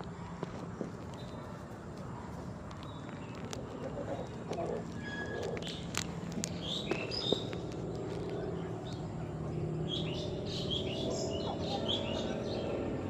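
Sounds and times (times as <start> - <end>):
birds chirping: 0.0 - 13.0
low steady hum: 0.0 - 13.0.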